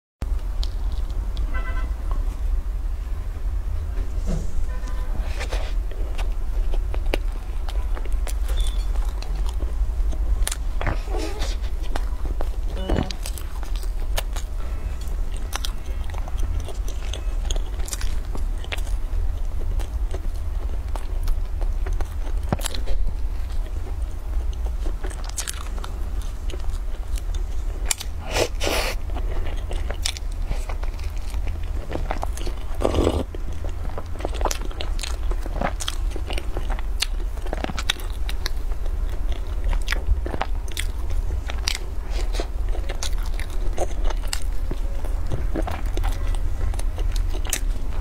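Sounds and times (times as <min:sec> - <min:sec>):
low hum: 0:00.2 - 0:48.0
crunchy bites and wet chewing: 0:05.2 - 0:48.0.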